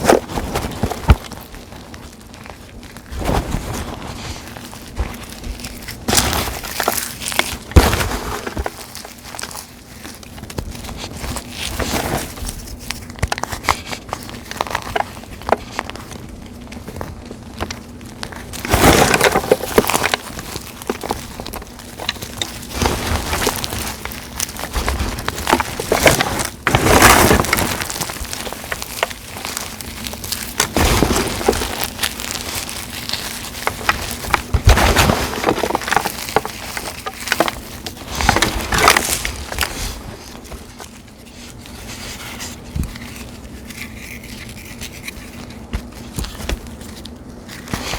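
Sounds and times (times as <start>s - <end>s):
chalk blocks crunching: 0.0s - 47.9s.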